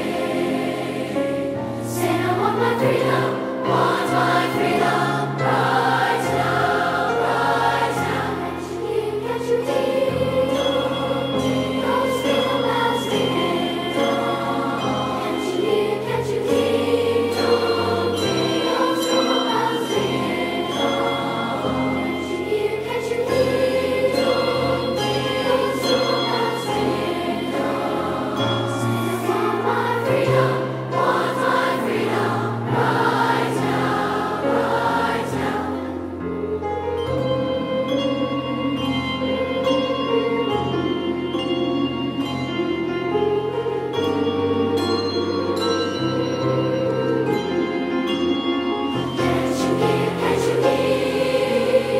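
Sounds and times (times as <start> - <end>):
choir singing gospel: 0.0 - 51.9.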